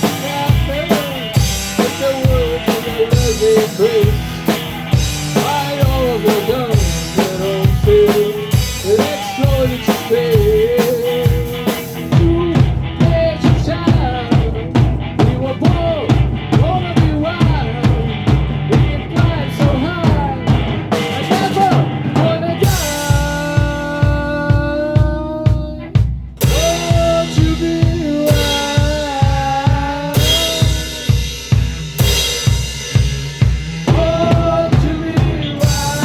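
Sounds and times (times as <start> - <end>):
drum kit beat: 0.0 - 36.0
rock song: 0.0 - 36.0.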